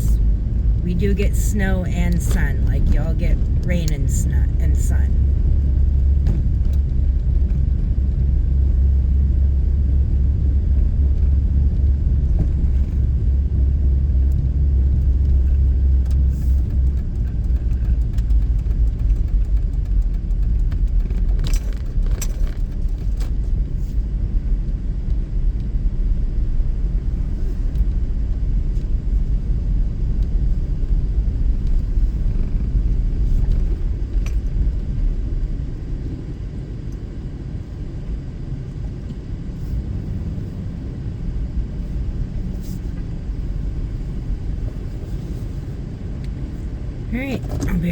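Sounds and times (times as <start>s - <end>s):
car driving rumble inside cabin: 0.0s - 47.9s.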